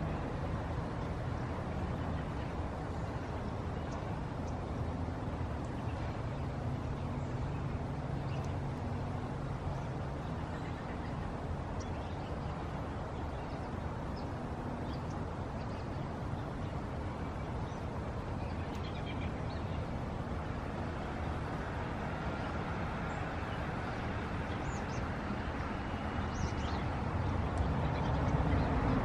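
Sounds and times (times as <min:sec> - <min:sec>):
low engine rumble: 0:00.0 - 0:29.0
small birds chirping: 0:01.0 - 0:29.0.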